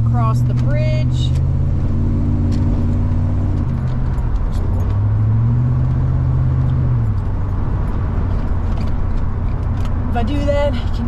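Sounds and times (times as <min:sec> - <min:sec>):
road noise: 0:00.0 - 0:11.0
van engine: 0:00.0 - 0:11.0.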